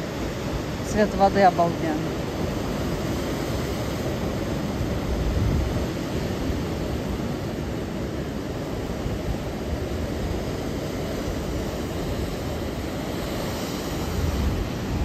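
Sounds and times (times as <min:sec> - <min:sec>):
wave crashing: 0:00.0 - 0:15.0.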